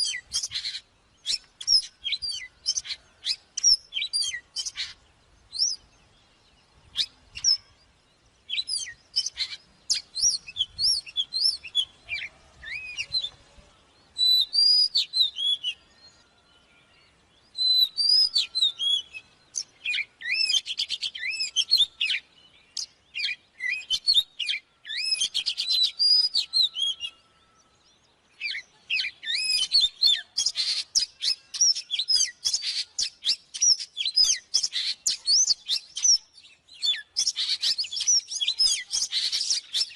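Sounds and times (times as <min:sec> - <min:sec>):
bird singing whistled phrases: 0:00.0 - 0:05.9, 0:06.9 - 0:07.8, 0:08.5 - 0:13.4, 0:14.2 - 0:39.9.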